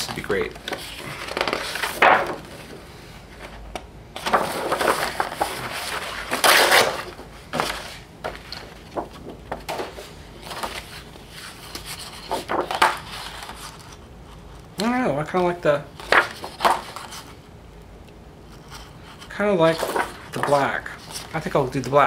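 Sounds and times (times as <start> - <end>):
paper sheets rustling and flapping: 0.0 - 14.0, 15.9 - 17.4, 18.5 - 21.8.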